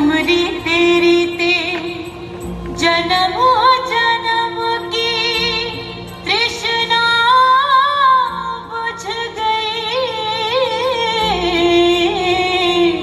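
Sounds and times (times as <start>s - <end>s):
sustained musical backing: 0.0s - 13.0s
woman singing ornamented melody: 0.0s - 13.0s.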